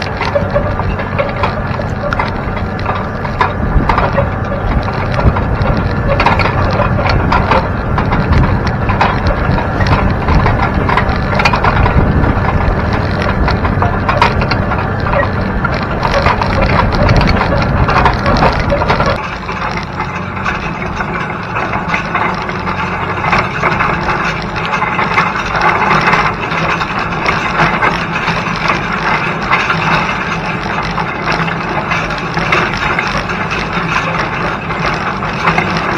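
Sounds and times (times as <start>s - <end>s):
cultivator dragging through soil: 0.0s - 35.9s
deep rumble: 0.0s - 35.9s.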